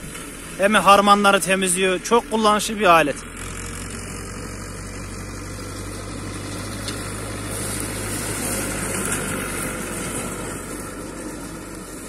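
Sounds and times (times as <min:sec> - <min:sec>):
mower high hiss: 0:00.0 - 0:12.0
tractor diesel engine running: 0:00.0 - 0:12.0.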